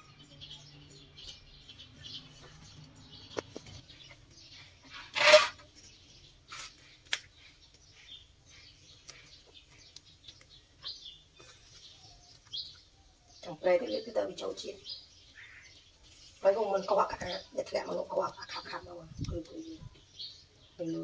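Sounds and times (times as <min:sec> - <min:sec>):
fire crackling and popping: 0:02.8 - 0:20.4.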